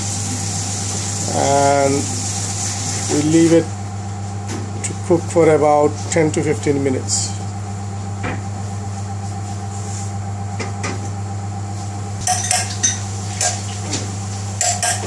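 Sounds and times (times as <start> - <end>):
steady kitchen hum: 0.0 - 15.0.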